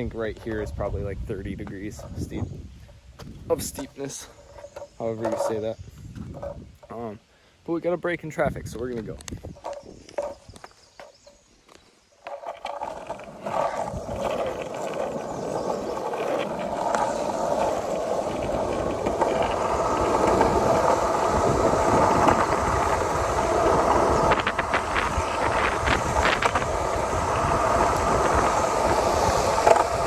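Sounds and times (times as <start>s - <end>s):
wind on microphone: 0.0s - 4.0s, 5.6s - 6.8s, 8.4s - 10.6s, 13.4s - 30.0s
skateboard wheels rolling on asphalt: 0.0s - 7.2s, 7.8s - 30.0s.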